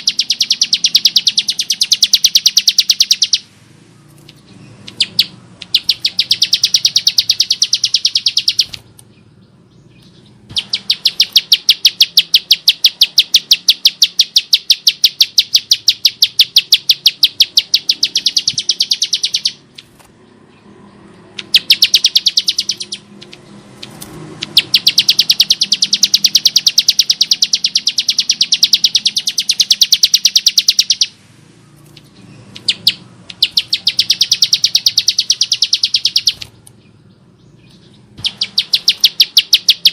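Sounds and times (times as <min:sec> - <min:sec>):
bird singing a harsh trill: 0:00.0 - 0:39.9.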